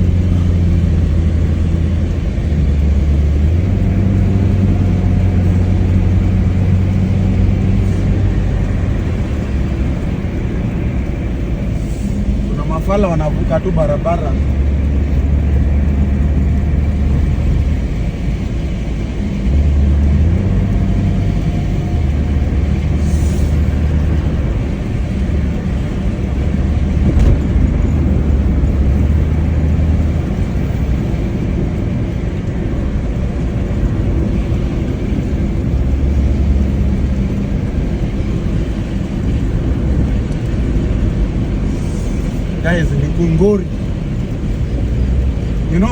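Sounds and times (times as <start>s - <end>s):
car engine and road drone: 0.0s - 45.9s
wet road noise: 0.0s - 45.9s.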